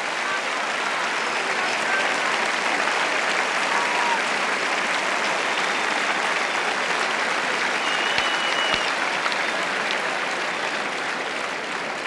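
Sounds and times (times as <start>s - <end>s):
stadium crowd applauding: 0.0s - 12.0s.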